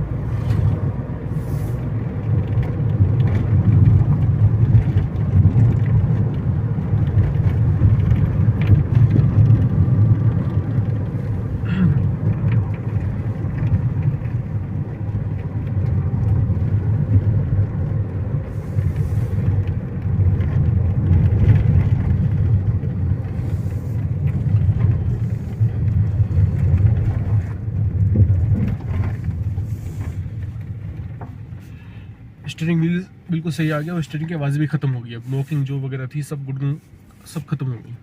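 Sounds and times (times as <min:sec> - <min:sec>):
car engine rumble: 0:00.0 - 0:38.0
road noise: 0:00.0 - 0:38.0.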